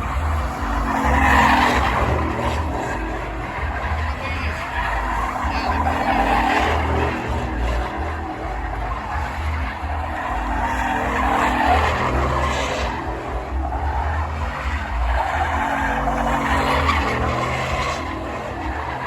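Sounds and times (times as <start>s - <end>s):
truck engine under throttle: 0.0s - 19.0s
tyres skidding and squealing: 0.0s - 19.0s.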